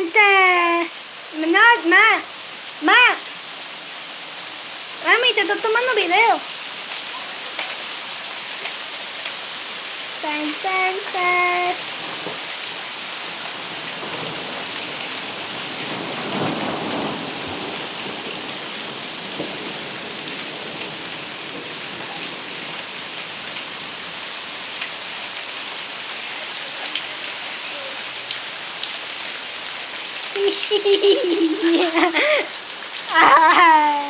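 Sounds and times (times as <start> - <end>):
rain drops ticking: 0.0 - 34.0
steady rain falling: 0.0 - 34.0.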